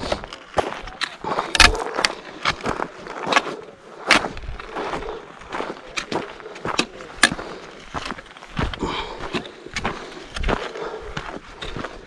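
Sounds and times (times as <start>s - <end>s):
footsteps on rocky scree: 0.0s - 12.0s
trekking poles clicking on stones: 0.0s - 12.0s.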